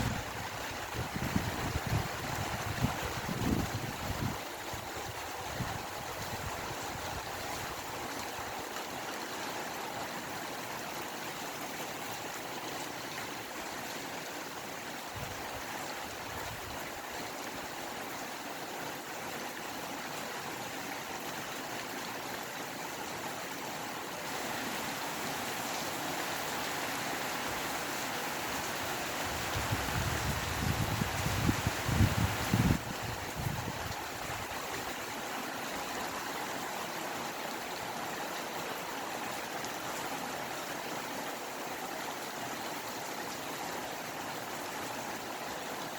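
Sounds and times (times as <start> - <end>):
rain and wind hiss: 0.0 - 45.9.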